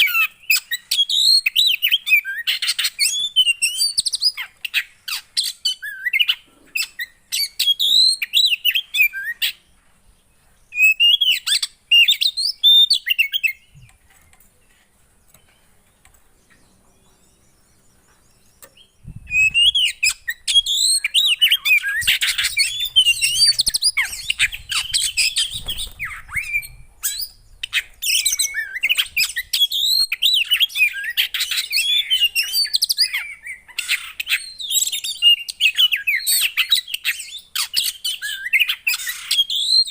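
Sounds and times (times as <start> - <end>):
songbird chirping and whistling: 0.0 - 39.9.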